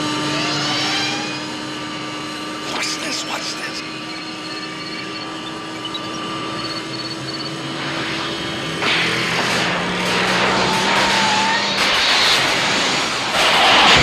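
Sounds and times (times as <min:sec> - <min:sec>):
car engine speeding up: 0:00.0 - 0:14.0.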